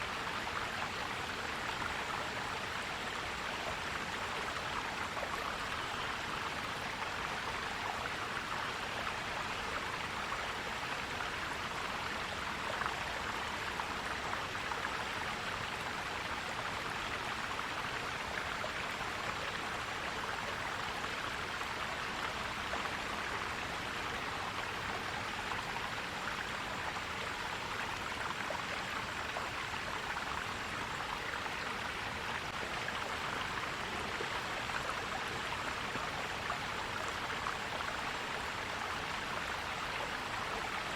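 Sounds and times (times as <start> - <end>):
stream flowing and gurgling: 0.0 - 40.9.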